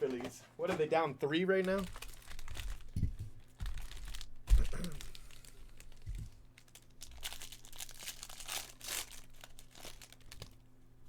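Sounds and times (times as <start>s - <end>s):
plastic and foil wrapping crinkling: 1.5s - 10.7s.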